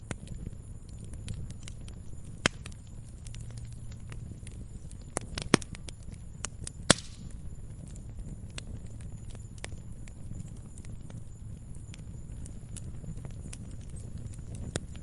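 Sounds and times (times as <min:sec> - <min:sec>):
flames rumbling: 0:00.0 - 0:15.0
sharp snaps of fire: 0:00.0 - 0:15.0
wood fire crackling: 0:00.0 - 0:15.0.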